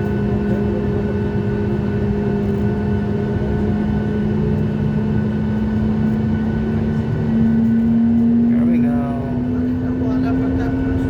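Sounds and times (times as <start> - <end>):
jet engines humming in cabin: 0.0 - 11.0.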